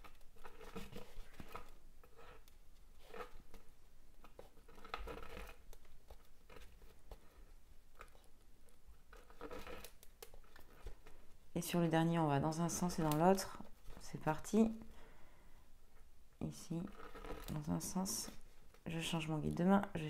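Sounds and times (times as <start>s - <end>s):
threads rustling and scratching: 0.0s - 14.9s, 16.4s - 19.3s.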